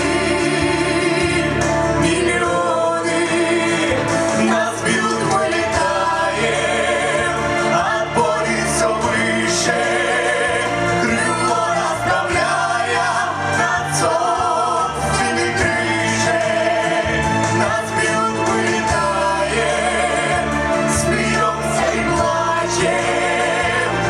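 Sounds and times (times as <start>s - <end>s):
vocal ensemble singing: 0.0s - 24.0s.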